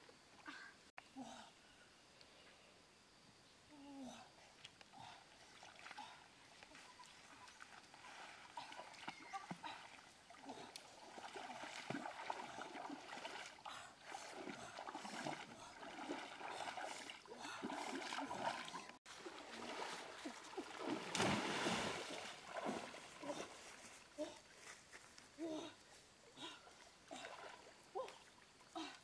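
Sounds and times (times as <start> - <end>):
people wading through water: 4.5 - 29.0.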